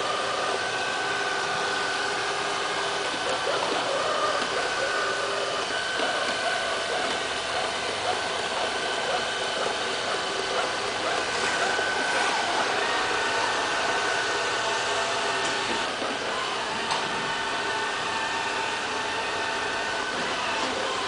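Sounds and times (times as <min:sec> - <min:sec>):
robot vacuum cleaner running: 0:00.0 - 0:21.0.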